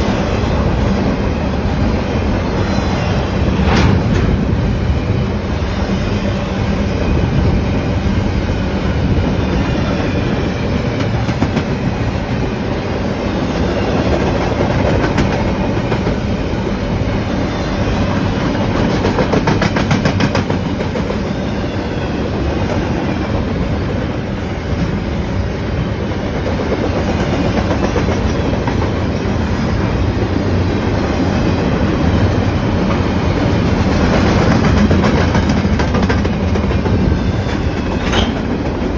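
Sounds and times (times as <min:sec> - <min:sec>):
train wheels clattering: 0:00.0 - 0:07.6, 0:08.2 - 0:12.6, 0:13.4 - 0:25.3, 0:25.9 - 0:38.9.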